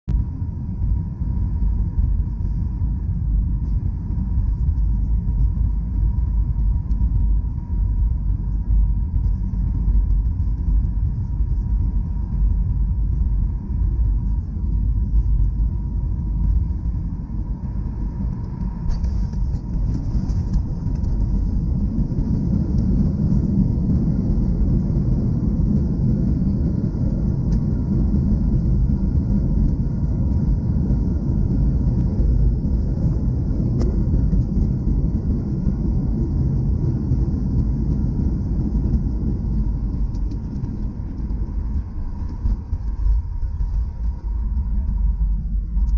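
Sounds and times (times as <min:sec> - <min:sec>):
low rumble of engines and wheels: 0:00.0 - 0:45.9
faint steady whine: 0:00.1 - 0:45.9.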